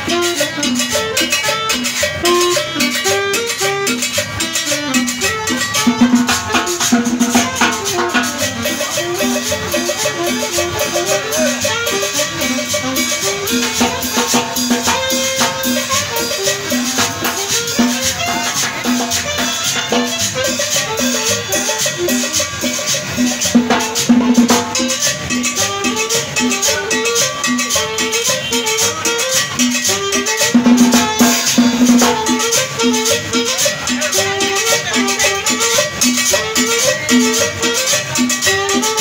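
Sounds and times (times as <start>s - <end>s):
hand drums: 0.0s - 39.0s
metal scraper rhythm: 0.0s - 39.0s.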